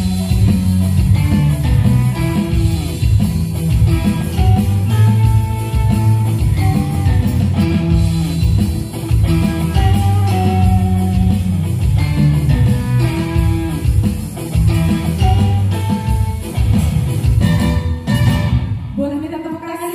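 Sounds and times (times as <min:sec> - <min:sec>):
saxophone melody: 0:00.0 - 0:18.8
bass line: 0:00.0 - 0:19.2
electric guitar: 0:00.0 - 0:19.9
live band music: 0:00.0 - 0:19.9.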